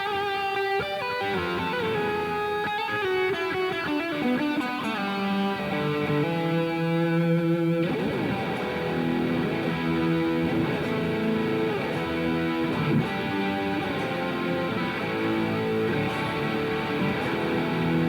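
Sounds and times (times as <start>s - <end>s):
distorted electric guitar chords: 0.0s - 18.0s.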